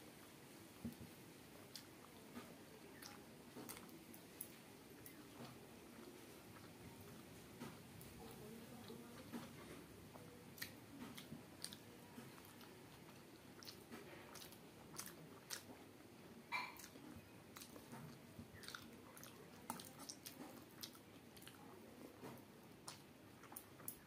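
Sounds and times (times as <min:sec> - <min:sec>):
close-up chewing mouth clicks: 0:01.6 - 0:24.0.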